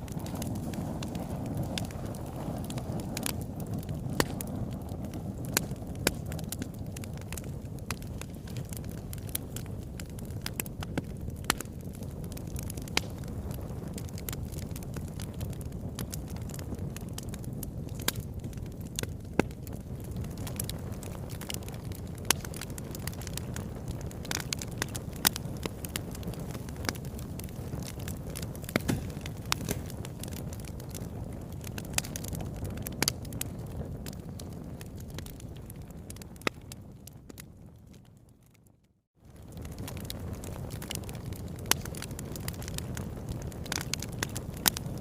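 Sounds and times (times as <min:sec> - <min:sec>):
fire crackling and popping: 0:00.0 - 0:45.0
low rumble of flames: 0:00.0 - 0:45.0.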